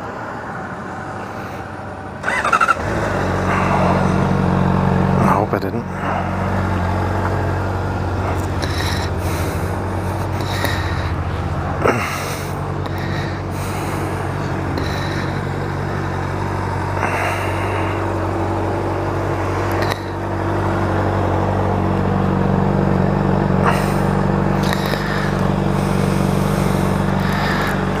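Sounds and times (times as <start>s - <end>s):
motorcycle engine running: 1.9s - 28.0s.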